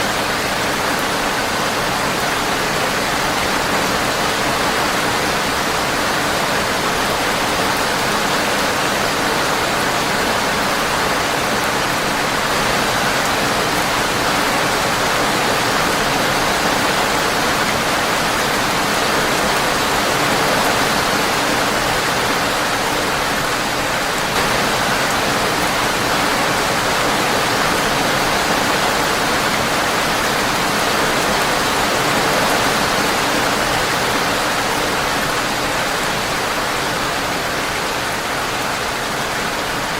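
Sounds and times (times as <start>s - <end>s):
rain on a windowpane: 0.0s - 39.9s.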